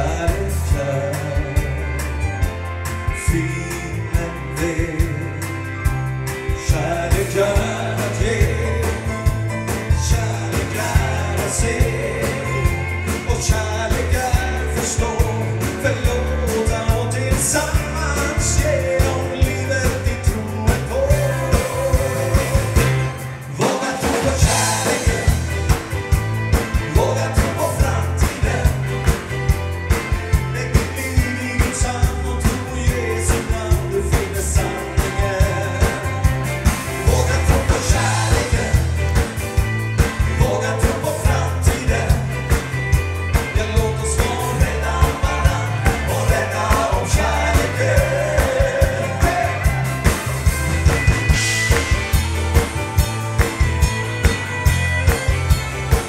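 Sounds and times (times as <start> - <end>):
person singing: 0.0 - 2.4, 3.0 - 5.7, 6.4 - 9.3, 9.9 - 25.9, 26.6 - 29.4, 30.3 - 39.3, 40.0 - 50.5
band playing upbeat song: 0.0 - 56.0.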